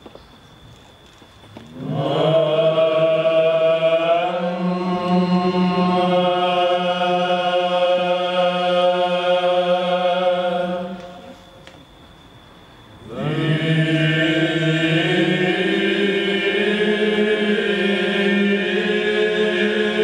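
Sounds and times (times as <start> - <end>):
male choir chanting: 1.7 - 11.4, 13.0 - 20.0
low held vocal drone: 1.7 - 11.6, 13.0 - 20.0.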